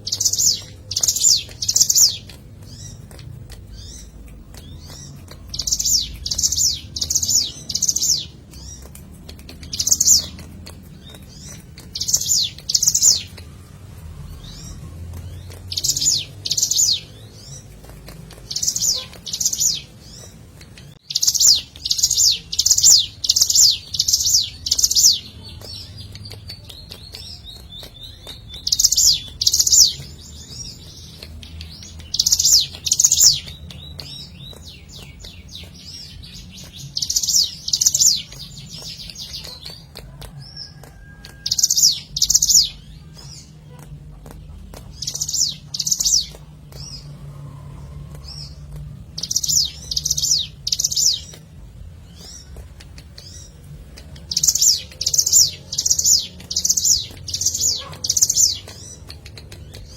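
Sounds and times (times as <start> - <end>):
soft bird chips: 0.0 - 59.9.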